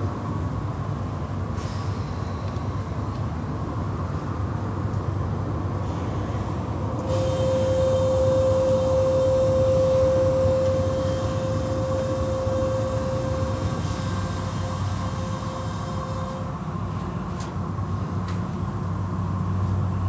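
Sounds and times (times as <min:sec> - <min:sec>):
car wash machinery hum: 0:00.0 - 0:20.0
steady mechanical whine: 0:00.0 - 0:20.0.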